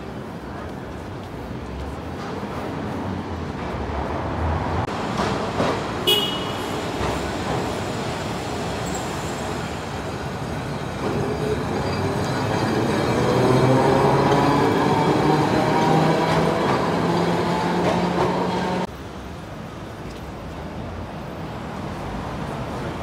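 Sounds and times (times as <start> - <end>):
street noise: 0.0 - 23.0
tram passing on rails: 0.0 - 23.0.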